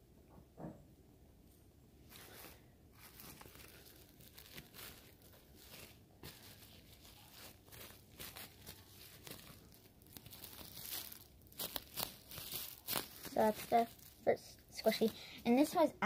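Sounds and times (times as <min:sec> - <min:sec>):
plastic bag crinkling: 0:02.1 - 0:15.9.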